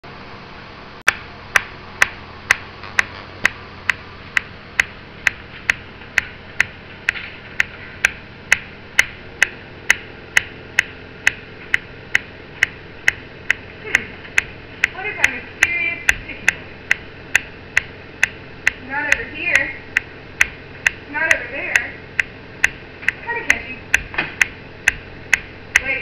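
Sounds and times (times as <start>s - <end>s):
sharp regular ticking: 1.1s - 26.0s.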